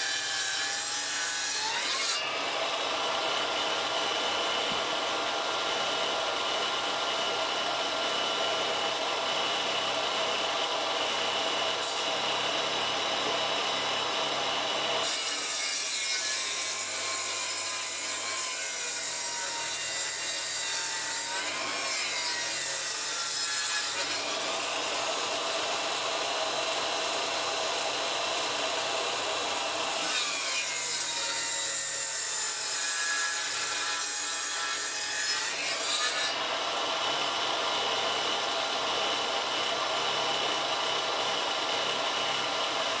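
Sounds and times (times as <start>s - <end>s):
table saw cutting log: 0.0s - 43.0s.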